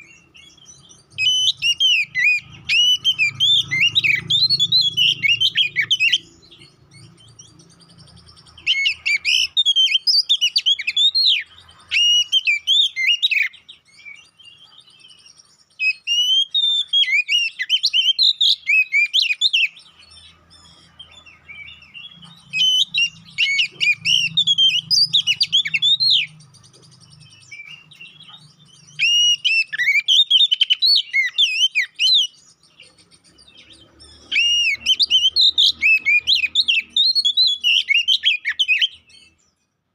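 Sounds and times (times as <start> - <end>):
bird singing whistled phrases: 0.0 - 39.4.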